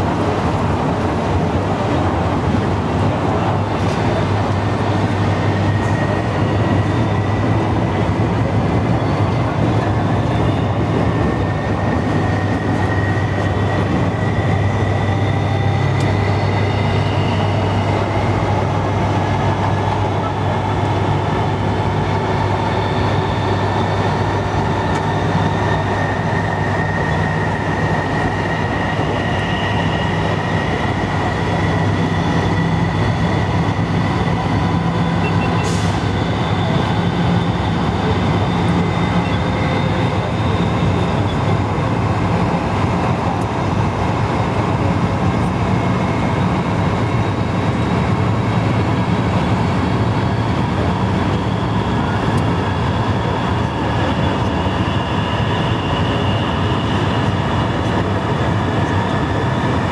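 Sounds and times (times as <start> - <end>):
electric train rumble: 0.0 - 59.9
train drive whine rising: 0.0 - 59.9.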